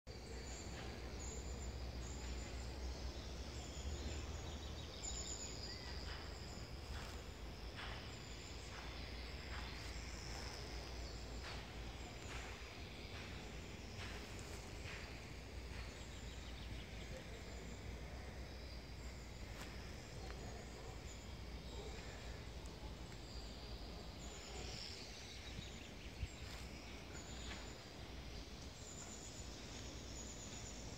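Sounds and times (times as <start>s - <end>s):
low forest hiss and rumble: 0.1s - 30.9s.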